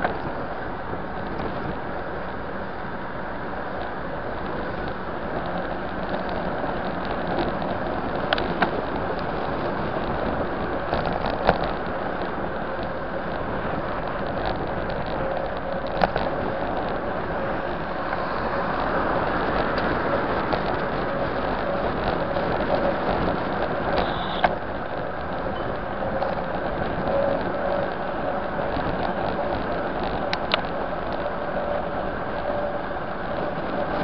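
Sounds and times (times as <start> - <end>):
bicycle tyre noise on road: 0.0 - 34.0
wind noise: 0.0 - 34.0.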